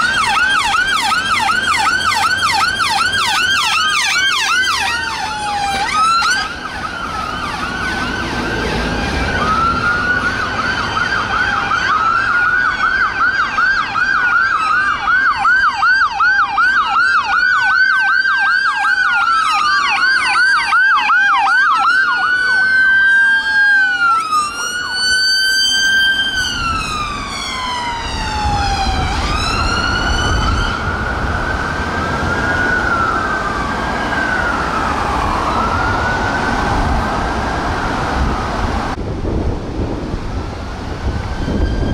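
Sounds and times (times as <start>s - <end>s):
ambulance sirens wailing: 0.0s - 41.9s
vehicle engines rumbling: 0.0s - 41.9s.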